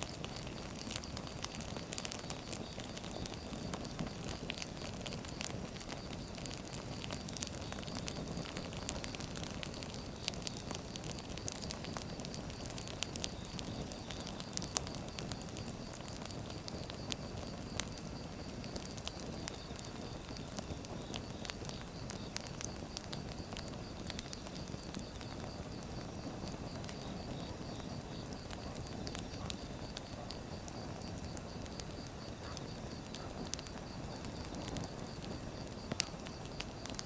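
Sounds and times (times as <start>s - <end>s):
firewood crackling and popping: 0.0s - 37.0s
low rush of flame: 0.0s - 37.0s.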